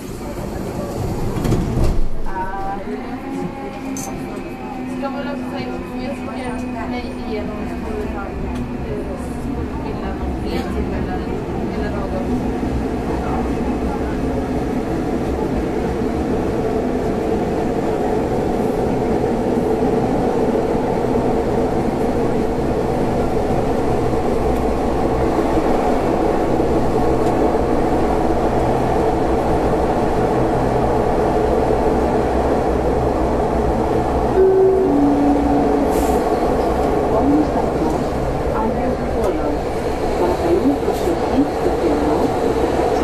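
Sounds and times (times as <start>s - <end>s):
low hum of train car: 0.0s - 43.0s
metro train rumble: 0.0s - 43.0s.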